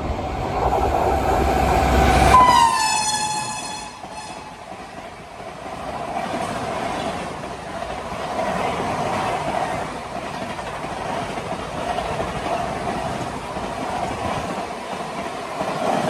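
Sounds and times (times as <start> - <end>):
train wheels rushing on rails: 0.0 - 16.0.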